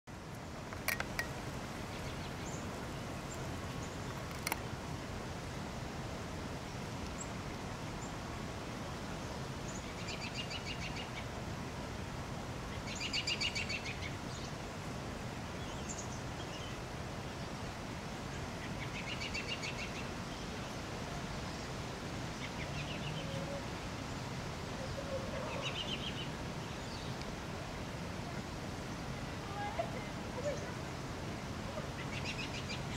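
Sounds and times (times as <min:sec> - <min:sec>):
steady background hiss: 0:00.1 - 0:32.9.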